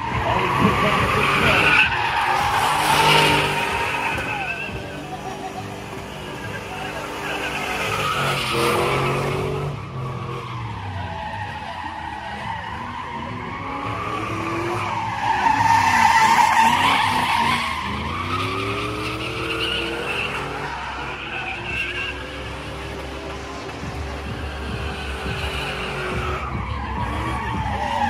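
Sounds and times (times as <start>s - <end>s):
truck engine revving: 0.0s - 28.0s
tyres screeching: 0.0s - 28.0s.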